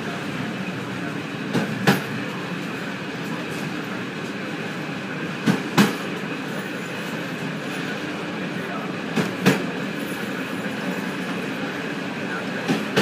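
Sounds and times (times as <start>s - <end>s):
train rolling rumble: 0.0s - 13.0s
wheels clacking on track: 0.0s - 13.0s.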